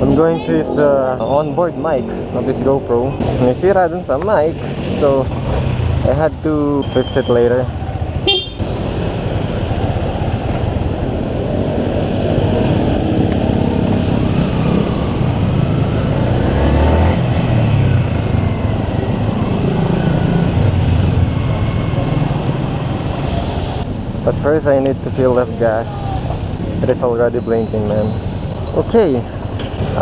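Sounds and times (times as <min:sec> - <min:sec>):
road noise: 0:00.0 - 0:30.0
surrounding traffic: 0:00.0 - 0:30.0.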